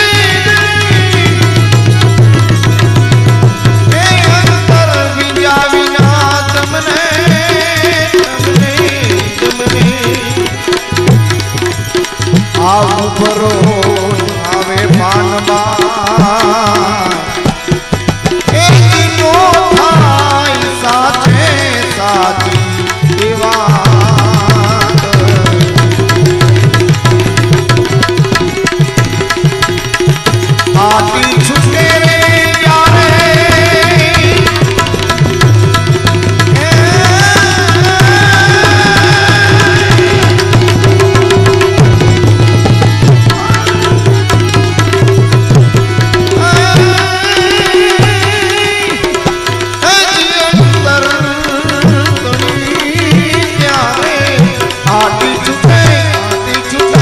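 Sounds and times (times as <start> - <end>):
hand drum beat: 0.0 - 57.0
harmonium: 0.0 - 57.0
man singing into a microphone: 0.0 - 57.0.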